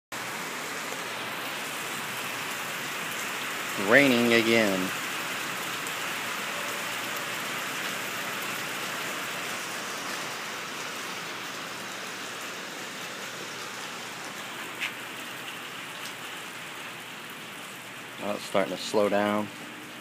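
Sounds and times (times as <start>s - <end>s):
heavy rain on concrete: 0.1s - 20.0s.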